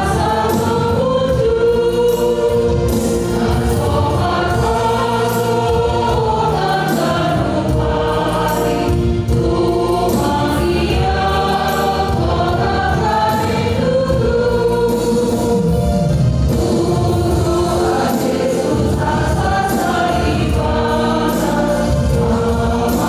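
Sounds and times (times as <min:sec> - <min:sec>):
congregation singing a hymn: 0:00.0 - 0:23.0
instrumental accompaniment: 0:00.0 - 0:23.0.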